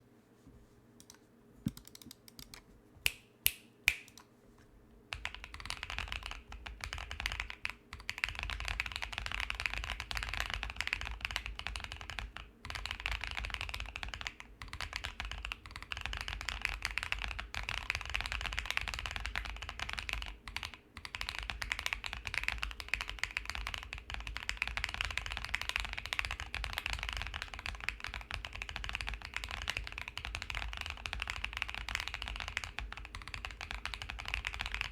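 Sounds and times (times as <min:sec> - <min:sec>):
mechanical keyboard typing: 0:01.0 - 0:02.6, 0:05.1 - 0:34.9.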